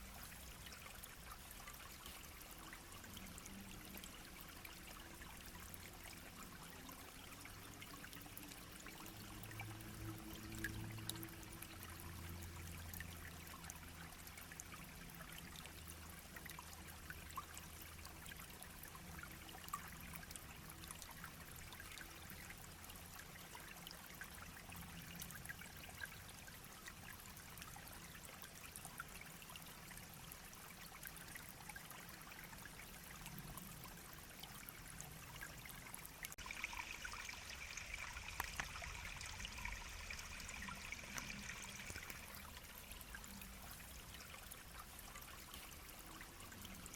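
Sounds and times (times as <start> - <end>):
brook babbling: 0.0 - 46.9.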